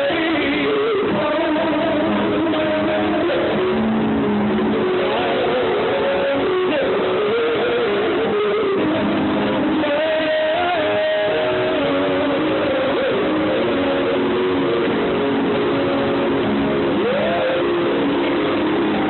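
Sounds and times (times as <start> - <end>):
live band with guitar melody: 0.0 - 19.0.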